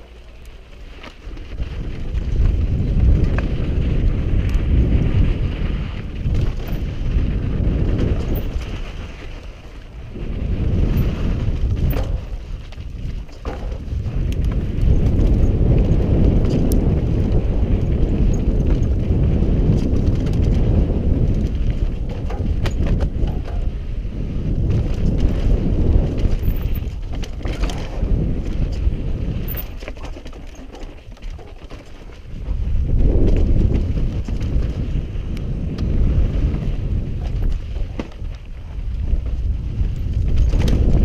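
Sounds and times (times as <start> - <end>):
bike clicks and rattles: 0.0 - 41.0
bike tyre rumble: 0.0 - 41.0
wind rushing over microphone: 0.0 - 41.0.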